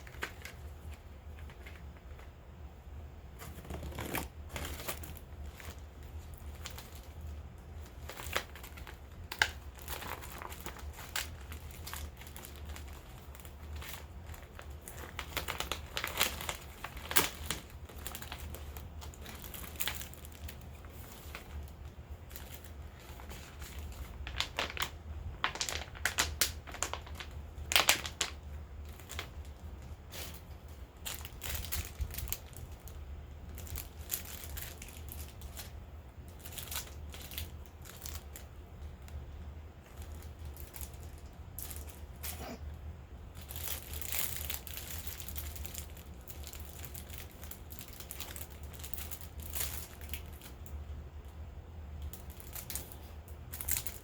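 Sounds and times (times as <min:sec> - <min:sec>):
packaging crinkling: 0:00.0 - 0:02.3, 0:03.4 - 0:42.6, 0:43.3 - 0:50.8, 0:52.0 - 0:54.0.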